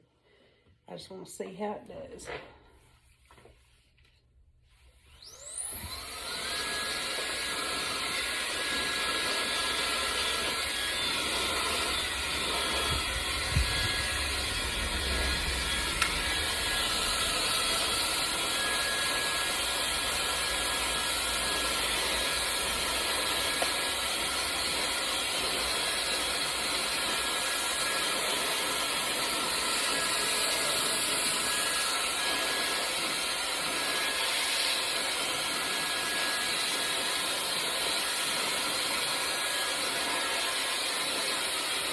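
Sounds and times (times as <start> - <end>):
hair dryer running: 5.1 - 41.9.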